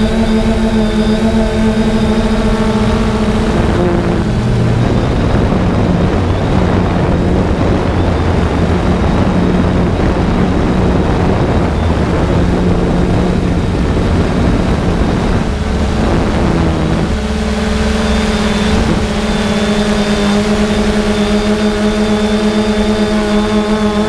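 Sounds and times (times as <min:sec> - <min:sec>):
drone propellers whirring: 0:00.0 - 0:24.0
high motor whine: 0:00.0 - 0:24.0.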